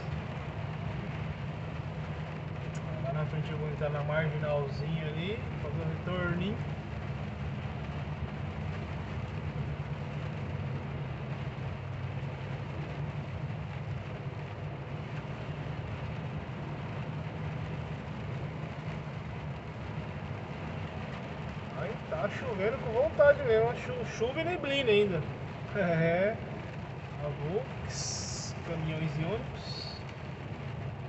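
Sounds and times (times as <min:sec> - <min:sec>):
hiss of rain and wet road: 0:00.0 - 0:31.0.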